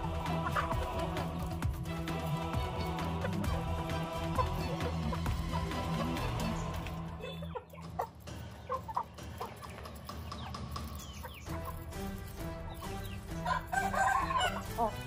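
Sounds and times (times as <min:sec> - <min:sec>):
background music: 0:00.0 - 0:15.0
chickens clucking: 0:00.0 - 0:15.0.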